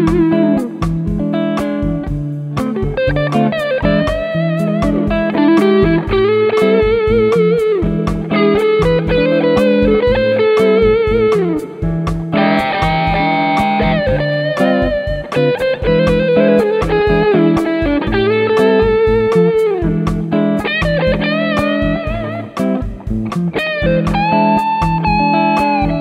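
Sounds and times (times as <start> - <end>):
backing track with steady beat: 0.0 - 26.0
electric guitar lead line: 0.0 - 26.0.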